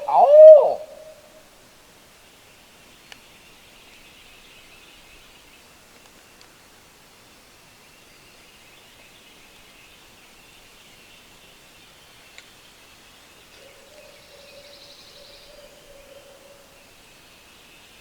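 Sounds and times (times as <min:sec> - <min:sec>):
songbirds singing faintly: 0:00.0 - 0:18.0.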